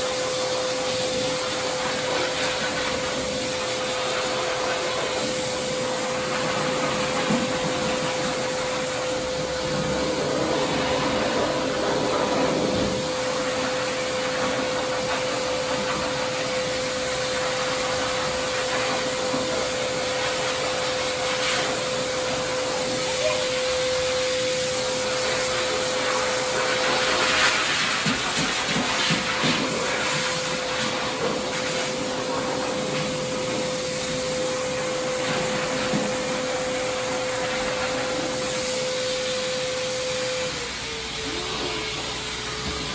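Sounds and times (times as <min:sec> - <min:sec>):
blow dryer whining: 0:00.0 - 0:42.9.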